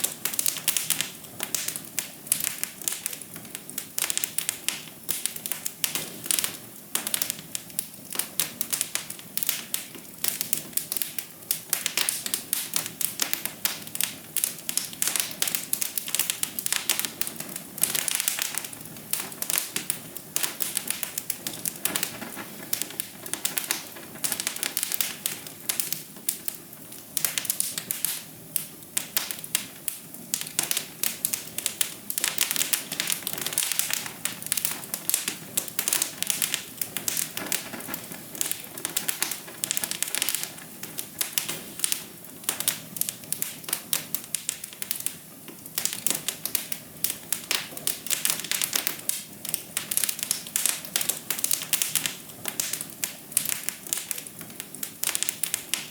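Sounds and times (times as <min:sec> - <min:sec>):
burning logs hissing: 0:00.0 - 0:55.9
wood fire crackling: 0:00.0 - 0:55.9.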